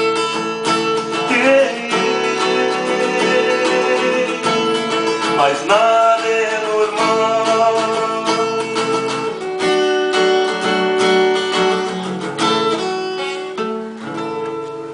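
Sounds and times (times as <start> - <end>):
strummed acoustic guitar chords: 0.0 - 14.9.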